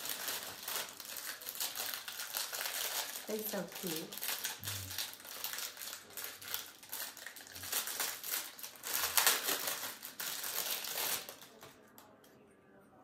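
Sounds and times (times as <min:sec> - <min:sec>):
plastic packaging crackling: 0:00.0 - 0:12.1.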